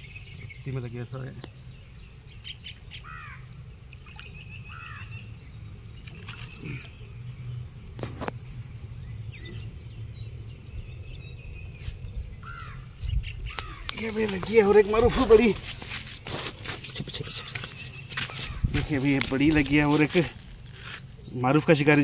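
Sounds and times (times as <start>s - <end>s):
birds calling: 0.0s - 22.0s
high-pitched insect drone: 0.0s - 22.0s.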